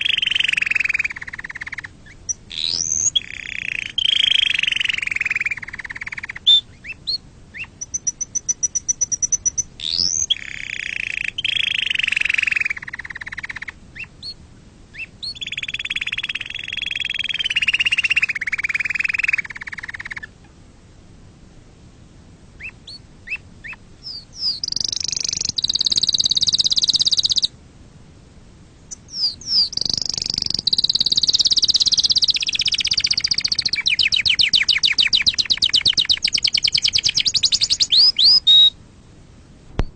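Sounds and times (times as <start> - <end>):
canary singing trills: 0.0 - 20.4, 22.6 - 27.5, 28.9 - 38.8.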